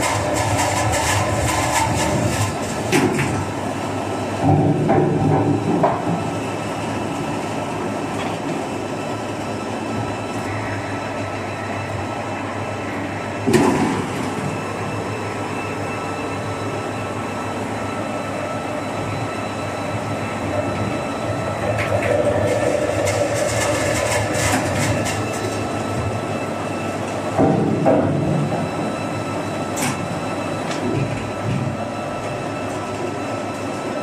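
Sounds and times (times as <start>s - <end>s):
lathe machinery drone: 0.0s - 34.0s
machine whining tones: 5.9s - 34.0s.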